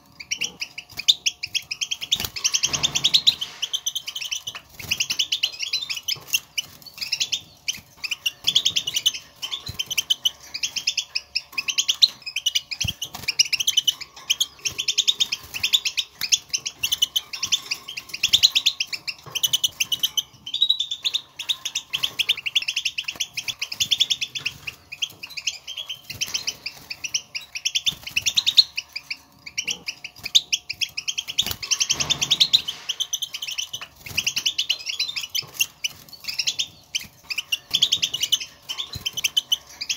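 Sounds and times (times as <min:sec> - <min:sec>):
goldfinch twittering and chirping: 0:00.0 - 0:39.9.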